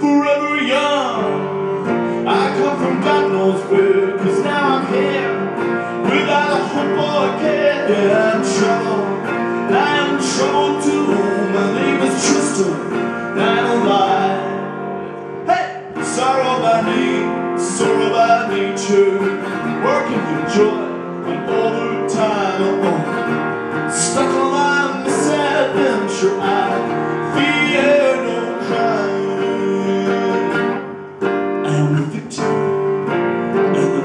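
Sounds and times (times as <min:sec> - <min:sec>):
strummed guitar: 0:00.0 - 0:34.0
live rock band playing: 0:00.8 - 0:34.0.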